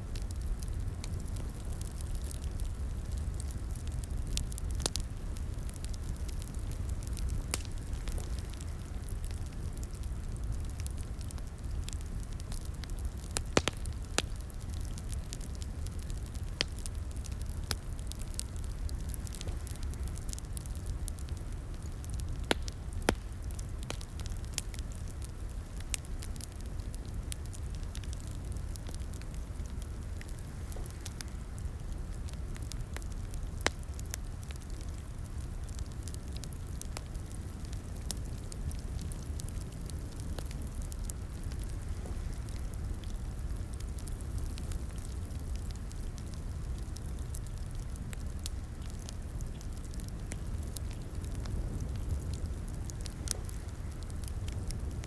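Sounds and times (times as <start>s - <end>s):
fire popping and snapping: 0.0s - 55.0s
low rumble of flames: 0.0s - 55.0s.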